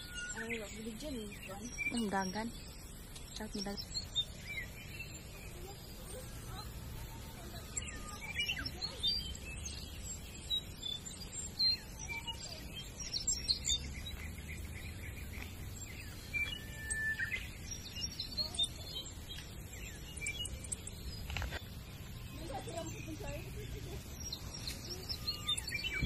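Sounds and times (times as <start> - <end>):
birds chirping and whistling: 0.0 - 26.0.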